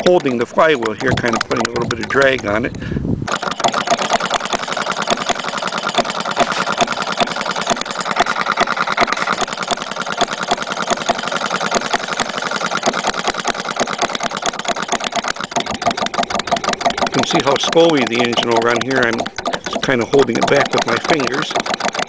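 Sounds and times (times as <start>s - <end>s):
small model engine clattering: 0.0s - 22.0s.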